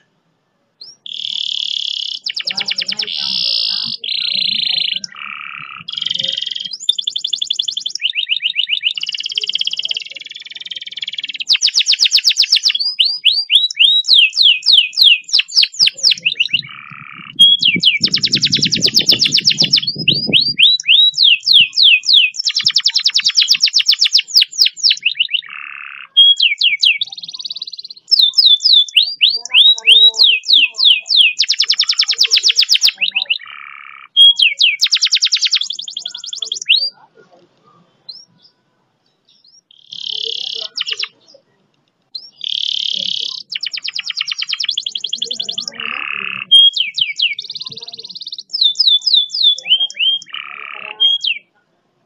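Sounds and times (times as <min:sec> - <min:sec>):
canary singing trills: 0:00.8 - 0:51.6.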